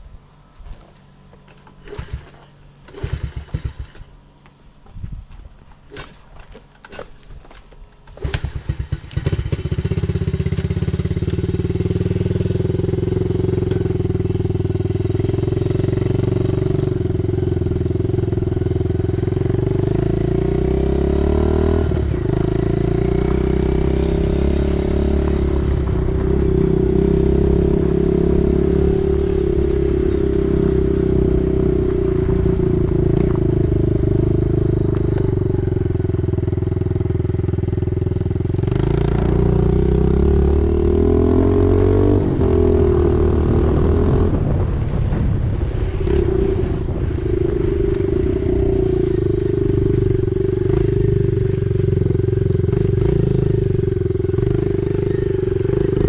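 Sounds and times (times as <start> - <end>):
dirt bike engine running: 0.8 - 4.6, 5.2 - 56.0.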